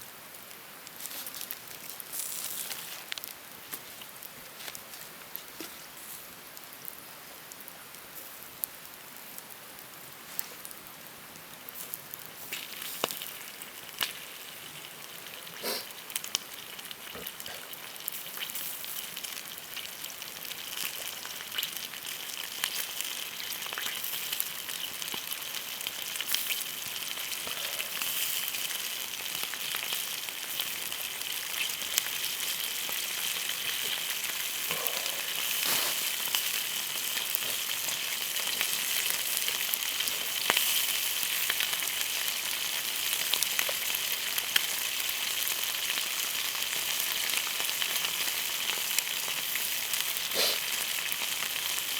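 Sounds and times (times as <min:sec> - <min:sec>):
food sizzling in a pan: 0:00.0 - 0:04.2, 0:11.5 - 0:51.9.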